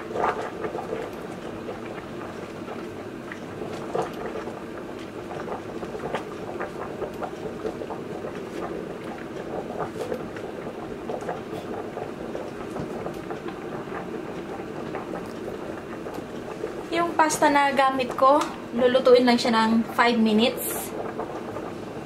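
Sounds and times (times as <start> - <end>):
water boiling with small pops: 0.0 - 22.0.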